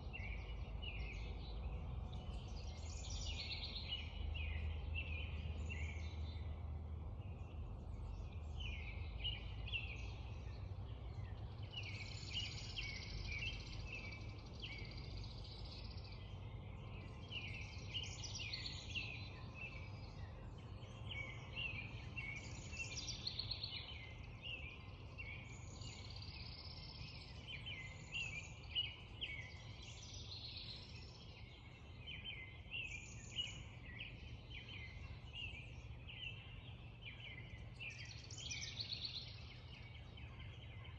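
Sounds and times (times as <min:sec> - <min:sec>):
songbirds dawn chorus: 0:00.0 - 0:40.9.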